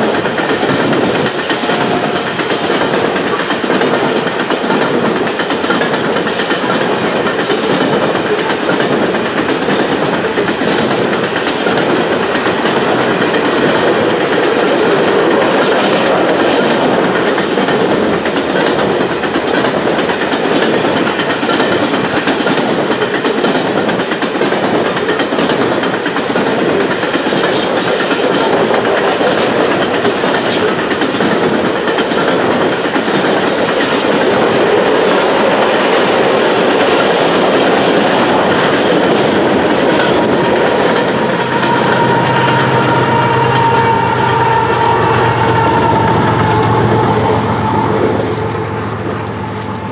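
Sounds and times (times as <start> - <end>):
freight train rolling past: 0.0 - 49.9.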